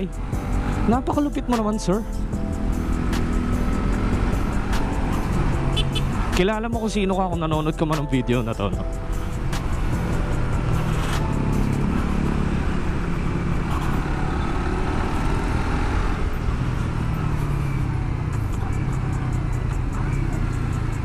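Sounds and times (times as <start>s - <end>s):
motorcycle engine running: 0.0s - 7.8s, 8.8s - 21.0s
road noise: 0.0s - 21.0s.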